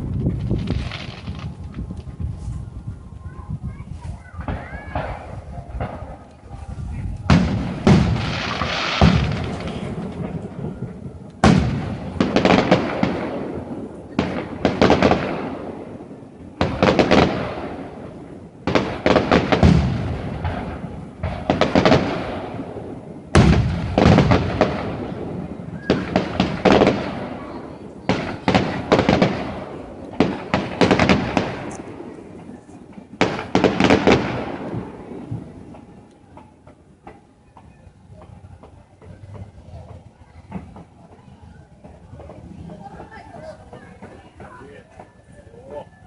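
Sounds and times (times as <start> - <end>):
fireworks bangs echoing: 0.0 - 2.2, 3.7 - 39.8.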